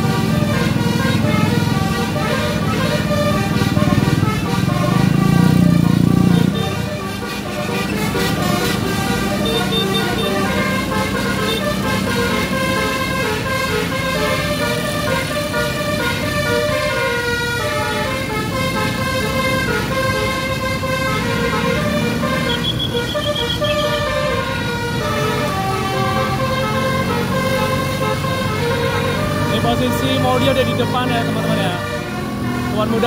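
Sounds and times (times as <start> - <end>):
musical bus horn melody: 0.0 - 33.0
road traffic rumble: 0.0 - 33.0.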